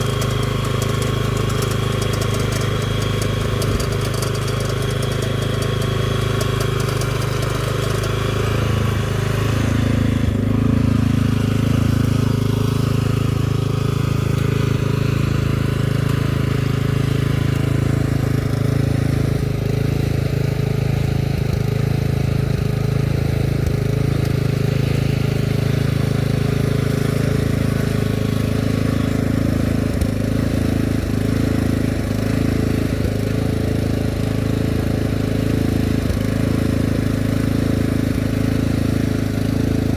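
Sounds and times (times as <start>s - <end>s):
cultivator engine running: 0.0s - 39.9s.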